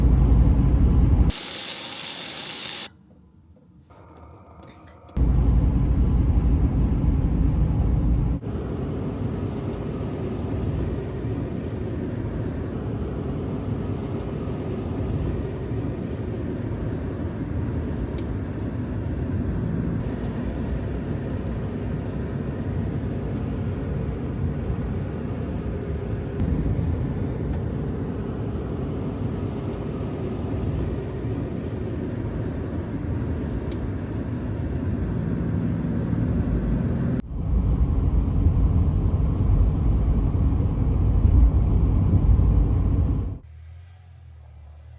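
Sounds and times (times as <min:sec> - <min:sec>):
vehicle engine and road noise: 0:00.0 - 0:44.9.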